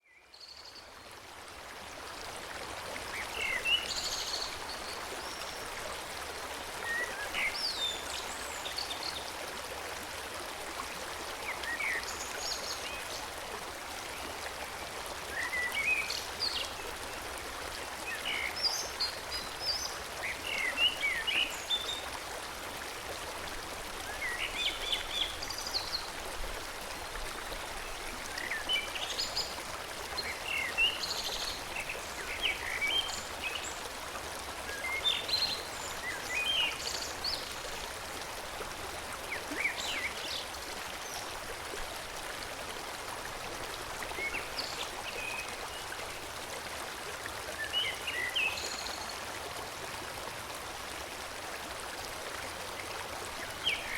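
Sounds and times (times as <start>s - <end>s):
forest stream flowing: 0.0s - 53.9s.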